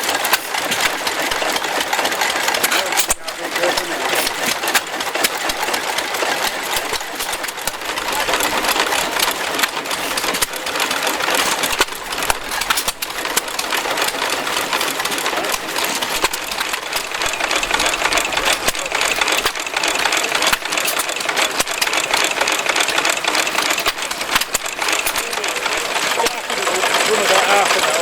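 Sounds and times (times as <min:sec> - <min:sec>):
small machine clattering: 0:00.0 - 0:28.0.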